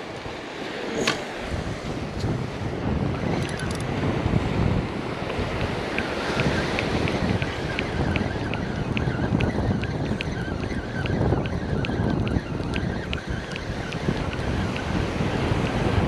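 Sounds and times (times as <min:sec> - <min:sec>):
wind blowing across microphone: 0:00.0 - 0:16.0.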